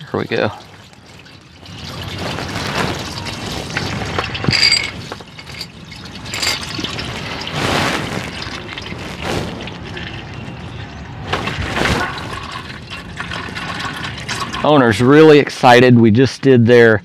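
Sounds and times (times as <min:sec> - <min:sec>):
oil stream splashing into pan: 0:00.0 - 0:14.8.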